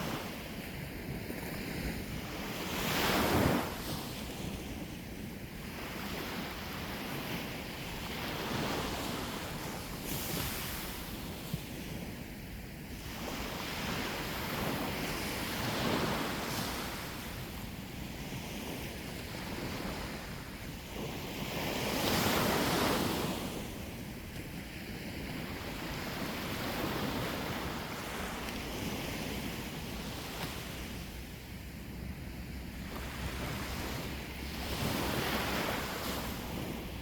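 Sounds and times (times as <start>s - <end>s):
sea waves washing onto shore: 0.0s - 37.0s
wind rumbling on microphone: 0.0s - 37.0s.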